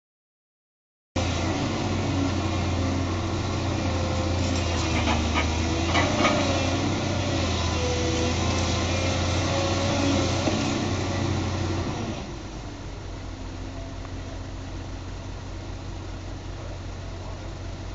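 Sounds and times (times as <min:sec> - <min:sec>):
excavator diesel engine running: 0:01.2 - 0:17.9.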